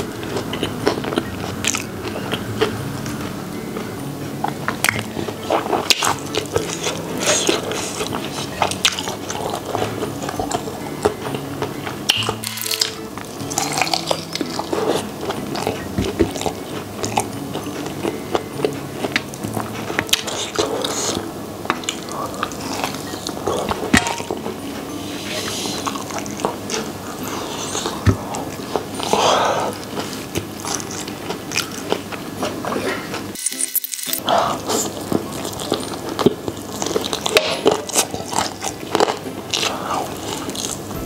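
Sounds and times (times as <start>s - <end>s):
background music: 0.0s - 41.0s
person chewing crunchy food: 0.0s - 41.0s.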